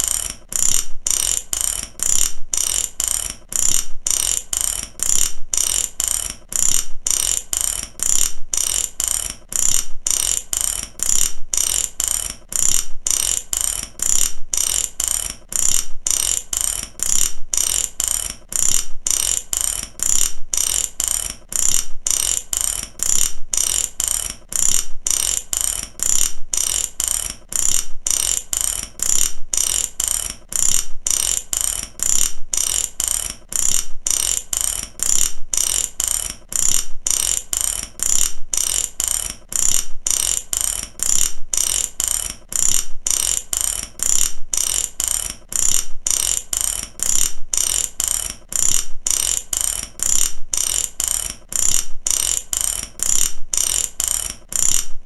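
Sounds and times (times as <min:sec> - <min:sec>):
ratchet clicking: 0:00.0 - 0:55.0.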